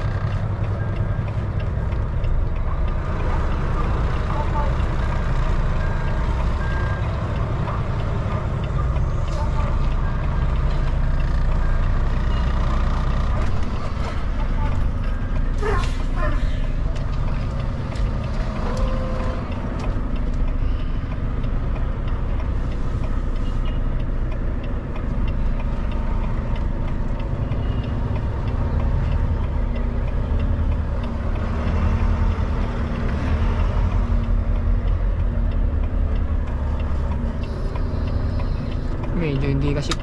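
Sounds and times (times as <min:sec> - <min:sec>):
diesel truck engine rumbling: 0:00.0 - 0:40.0.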